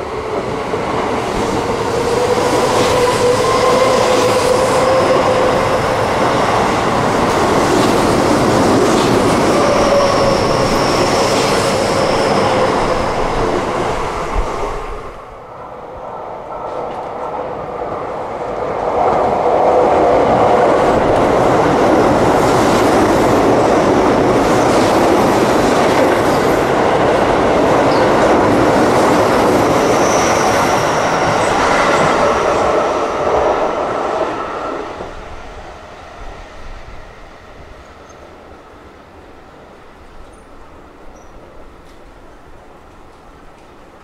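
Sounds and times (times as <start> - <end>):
train wheels rushing on rail: 0.0 - 44.0.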